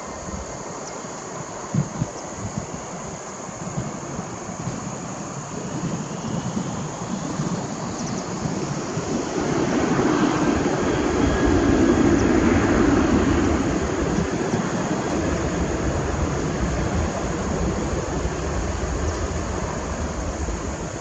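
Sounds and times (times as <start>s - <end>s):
faint engine whine: 0.0s - 21.0s
jet engines spooling up: 0.0s - 21.0s.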